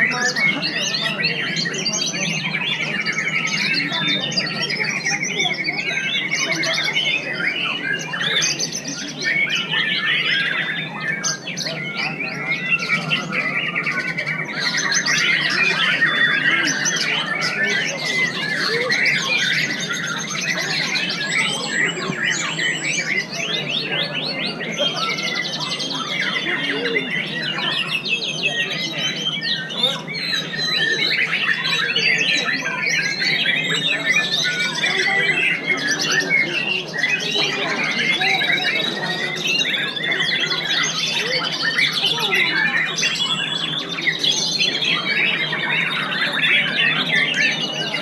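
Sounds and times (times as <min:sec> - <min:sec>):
birds singing: 0:00.0 - 0:48.0.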